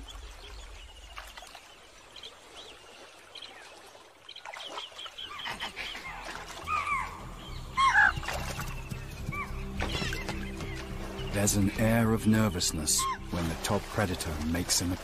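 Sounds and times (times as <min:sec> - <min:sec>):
faint wild background: 0:00.0 - 0:15.0.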